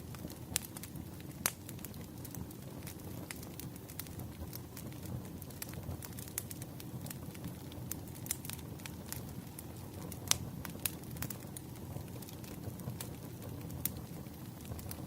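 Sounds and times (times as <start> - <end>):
burning logs crackling and popping: 0.0 - 15.0
flames rumbling: 0.0 - 15.0.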